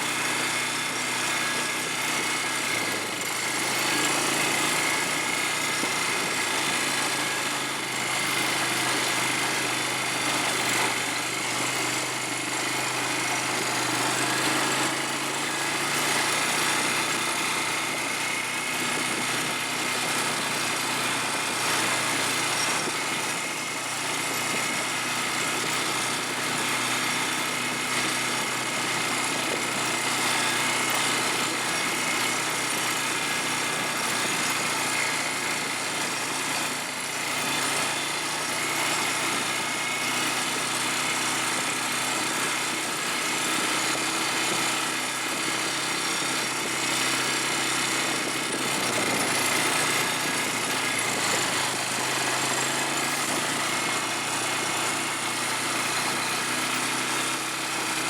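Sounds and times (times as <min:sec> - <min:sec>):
small atv engine running: 0:00.0 - 0:58.0.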